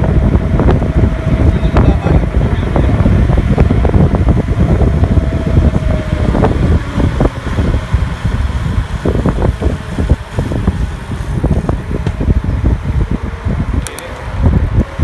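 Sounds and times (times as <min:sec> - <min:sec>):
vehicle and road noise: 0:00.0 - 0:15.0
wind buffeting on microphone: 0:00.0 - 0:15.0.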